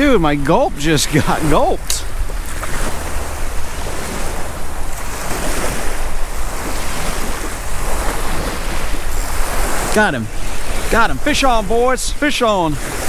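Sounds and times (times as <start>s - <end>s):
small waves on shore: 0.0s - 13.0s
wind buffeting microphone: 0.0s - 13.0s.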